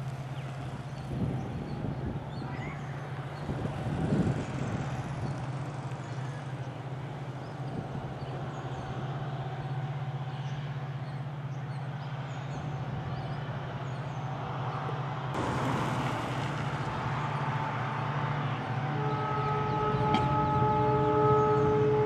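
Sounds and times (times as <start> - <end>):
engine hum: 0.0 - 22.0
road noise: 0.0 - 22.0.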